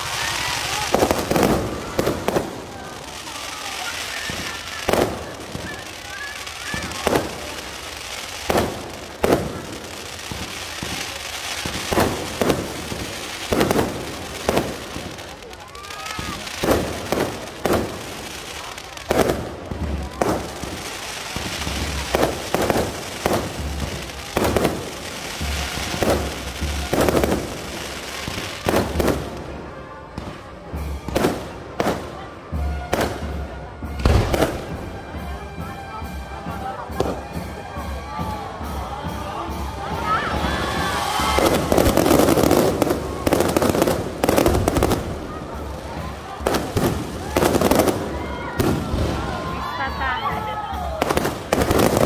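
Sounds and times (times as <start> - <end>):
fireworks crackling hiss: 0.0 - 52.0.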